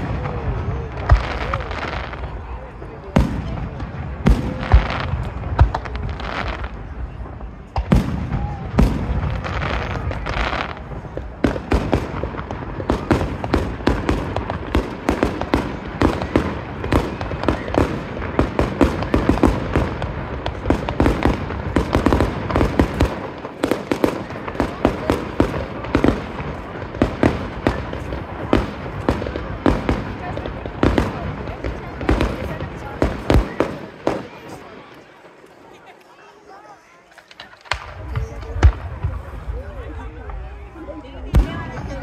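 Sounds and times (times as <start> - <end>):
fireworks bursting: 0.0 - 42.0.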